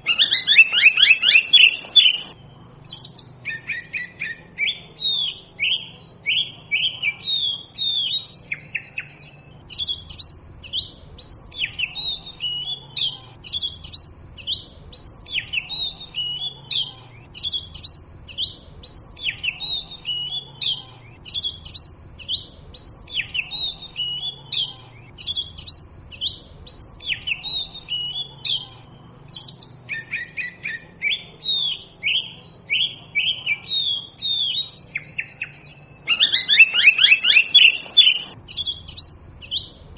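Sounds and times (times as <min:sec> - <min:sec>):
bird whistles and chirps: 0:00.0 - 0:28.7, 0:29.3 - 0:39.8.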